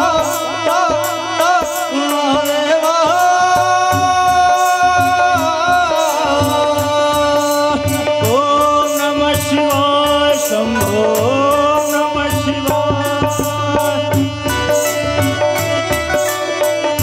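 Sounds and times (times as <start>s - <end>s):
person singing: 0.0s - 15.5s
harmonium: 0.0s - 17.0s
tabla rhythm: 0.0s - 17.0s.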